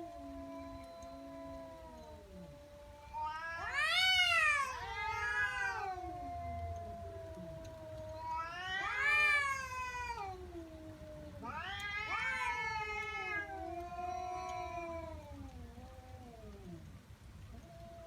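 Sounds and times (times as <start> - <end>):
cat yowling: 0.0 - 16.8.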